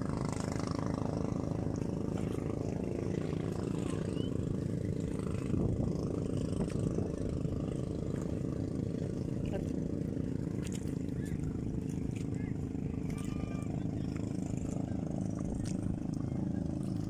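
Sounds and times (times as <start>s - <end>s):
wind buffeting microphone: 1.8s - 17.0s.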